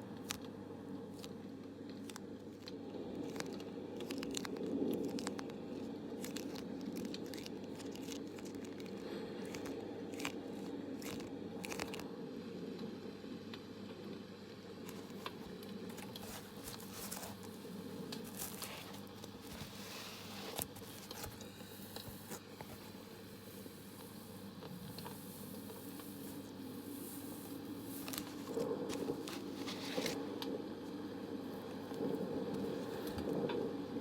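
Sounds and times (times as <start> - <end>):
soft crinkling and crackling: 0.0 - 34.0
white noise: 0.0 - 34.0.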